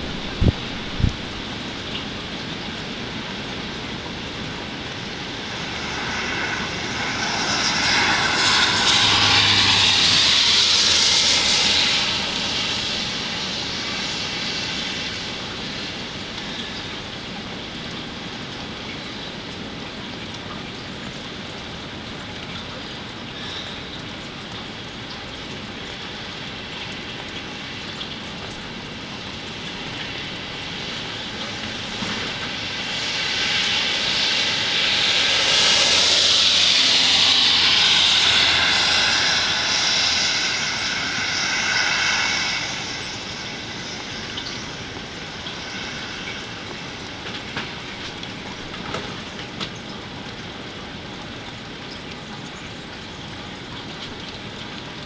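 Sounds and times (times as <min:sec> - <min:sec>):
steady rain: 0:00.0 - 0:55.0
vehicle passing in rain: 0:00.0 - 0:55.0.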